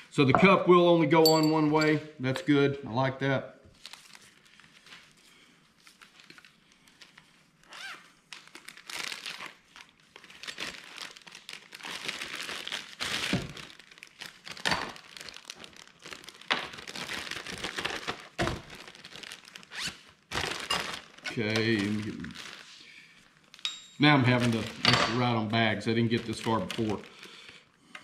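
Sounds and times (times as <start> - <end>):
plastic bags crinkling: 3.8 - 27.8.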